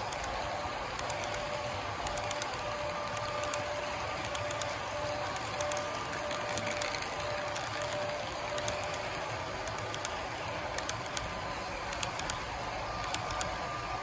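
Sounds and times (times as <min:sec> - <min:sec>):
model train cars rolling: 0:00.0 - 0:14.0
thin steady whine: 0:00.0 - 0:14.0
wheels clicking over rail joints: 0:00.0 - 0:14.0.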